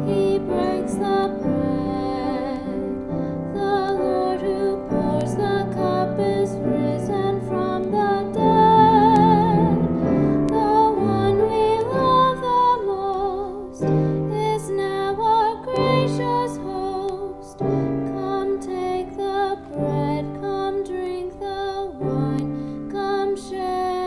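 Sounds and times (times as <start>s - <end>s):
piano accompaniment: 0.0s - 24.0s
woman singing with vibrato: 0.0s - 24.0s.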